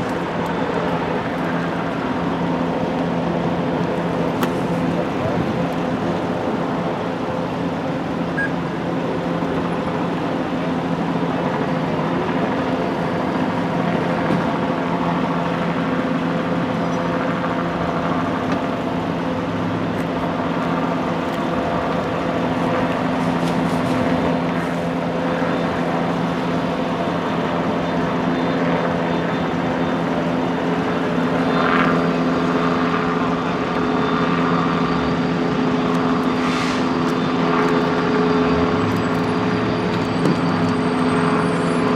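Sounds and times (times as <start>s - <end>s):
road traffic rushing: 0.0s - 41.9s
vehicle engines idling: 0.0s - 41.9s.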